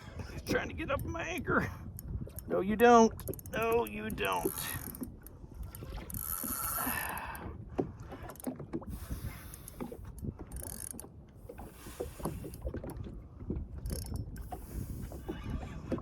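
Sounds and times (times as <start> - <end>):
water splashing against hull: 0.0 - 16.0.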